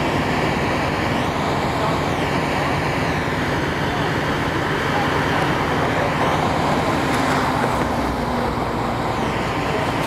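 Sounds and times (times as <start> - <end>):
rumble of street traffic: 0.0 - 10.0.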